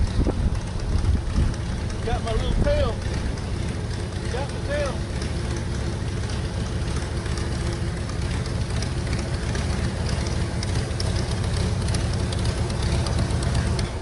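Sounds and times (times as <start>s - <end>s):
airboat engine and propeller: 0.0s - 14.0s.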